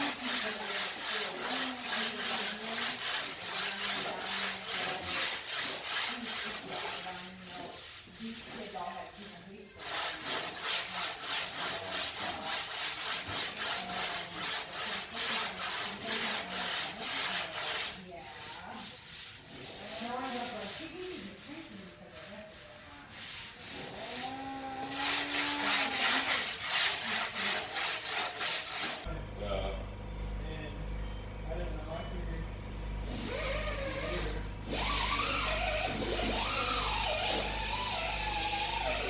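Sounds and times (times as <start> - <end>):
hand sanding strokes: 0.0 - 29.1, 33.1 - 39.0.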